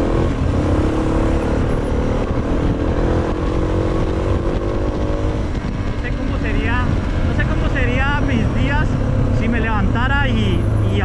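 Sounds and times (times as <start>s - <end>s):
motorcycle engine accelerating: 0.0s - 11.0s
wind rumble on microphone: 0.0s - 11.0s.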